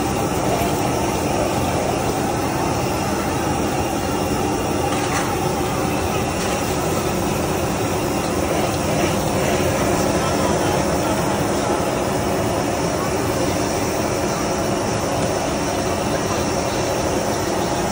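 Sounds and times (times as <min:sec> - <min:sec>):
gas burner roaring: 0:00.0 - 0:17.9.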